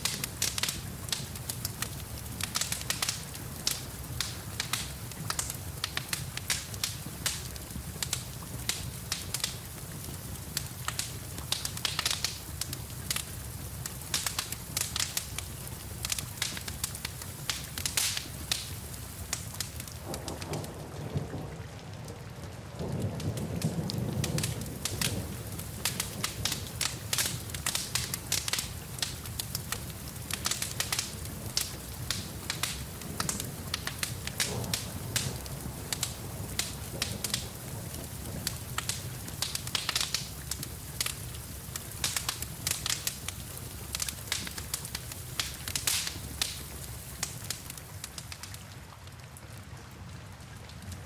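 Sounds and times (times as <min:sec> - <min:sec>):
rain falling: 0:00.0 - 0:51.0
wood fire crackling: 0:00.0 - 0:51.0.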